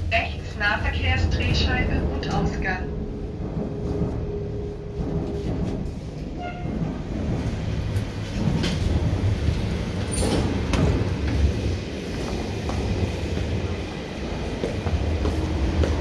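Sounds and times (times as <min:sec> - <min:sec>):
elevator rumbling: 0:00.0 - 0:16.0
sliding doors opening: 0:01.3 - 0:15.6.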